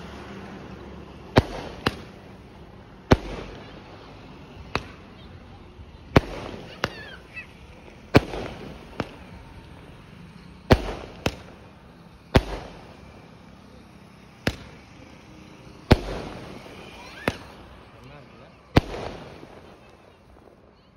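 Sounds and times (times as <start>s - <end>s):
firework crackling: 0.0s - 20.9s
firework bangs: 1.0s - 20.6s.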